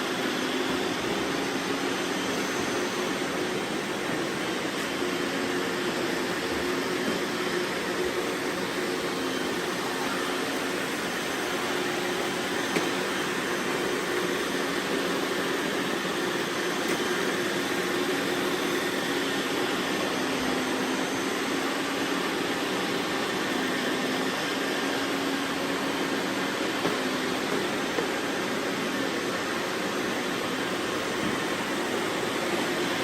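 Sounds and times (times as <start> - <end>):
robot vacuums whirring: 0.0 - 33.0.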